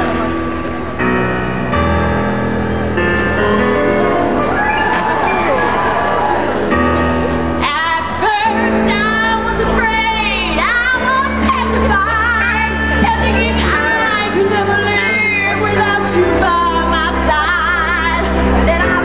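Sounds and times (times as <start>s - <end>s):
amplified band with bass line: 0.0s - 19.0s.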